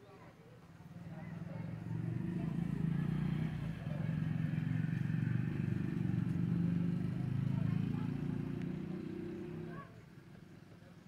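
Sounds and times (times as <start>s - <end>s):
vehicle engine running: 0.9s - 9.9s.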